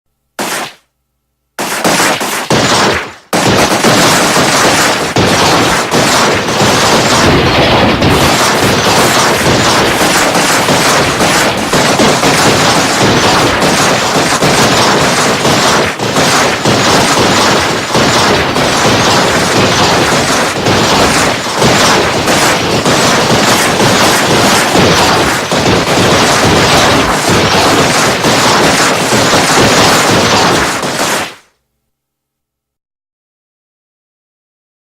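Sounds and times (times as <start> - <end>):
continuous gunfire: 0.4 - 0.9, 1.6 - 31.6.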